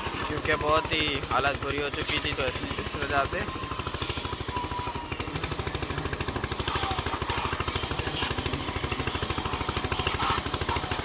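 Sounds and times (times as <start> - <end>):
pressure washer motor pulsing: 0.0 - 11.0.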